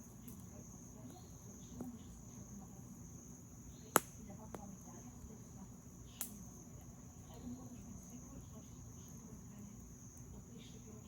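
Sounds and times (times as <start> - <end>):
campfire wood popping: 0.0 - 10.8
crickets chirping: 0.0 - 11.0.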